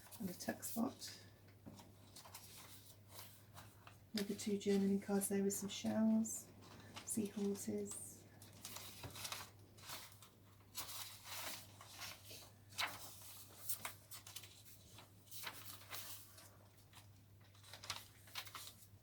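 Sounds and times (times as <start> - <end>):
paper pages rustling: 0.0 - 5.0, 6.1 - 19.0.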